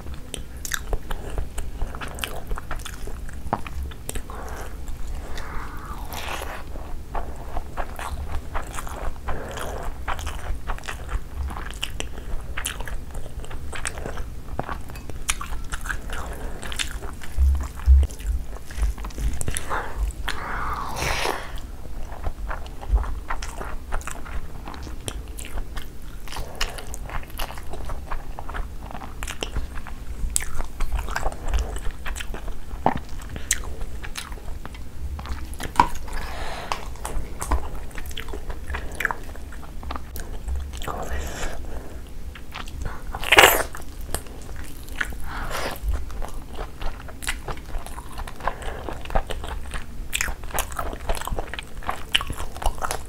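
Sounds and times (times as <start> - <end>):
person chewing and biting food: 0.3 - 53.0.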